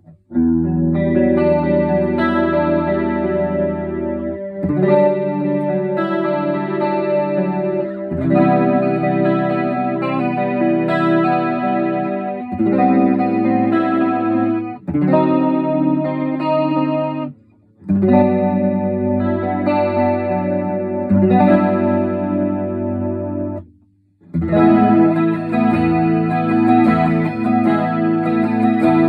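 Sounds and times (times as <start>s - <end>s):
electric guitar chorus chords: 0.0s - 23.6s, 24.3s - 29.0s.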